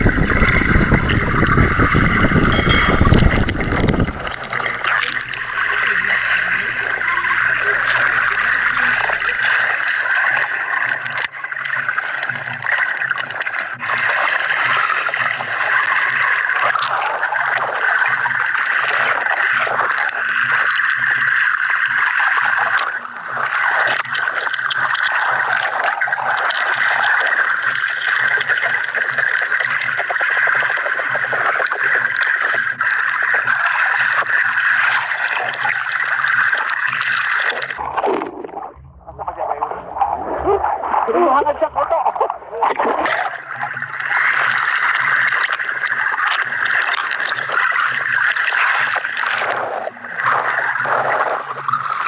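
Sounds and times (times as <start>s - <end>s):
muffled underwater gurgling: 0.0s - 52.0s.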